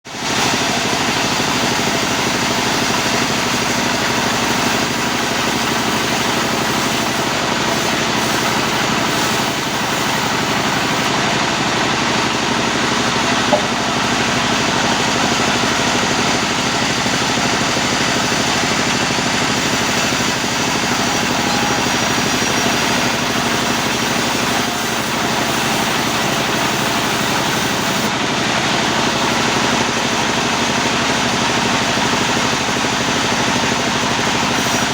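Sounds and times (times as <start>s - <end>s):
sawmill machinery running: 0.1s - 34.9s.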